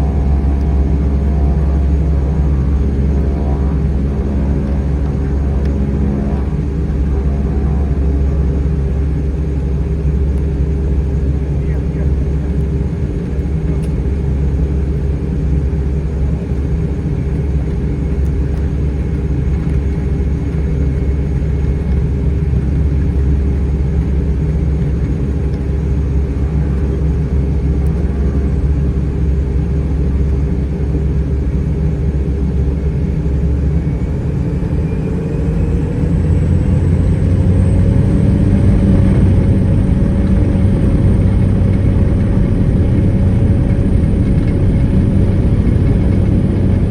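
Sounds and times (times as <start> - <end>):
turboprop engine drone: 0.0 - 46.9.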